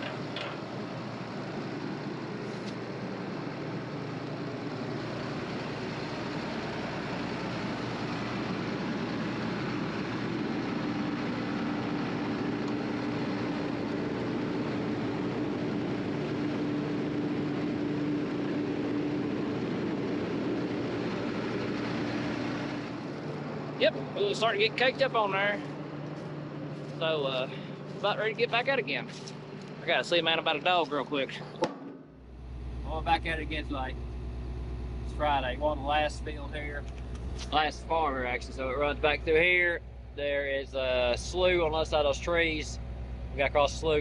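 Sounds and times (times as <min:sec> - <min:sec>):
combine harvester drone: 0:00.0 - 0:44.0.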